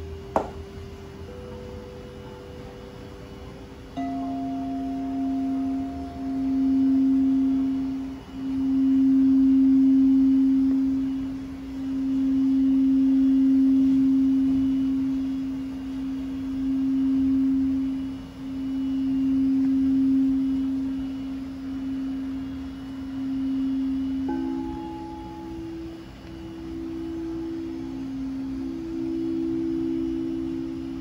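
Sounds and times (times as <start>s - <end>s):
higher ringing tone: 0.0s - 31.0s
singing bowl low tone: 0.0s - 31.0s.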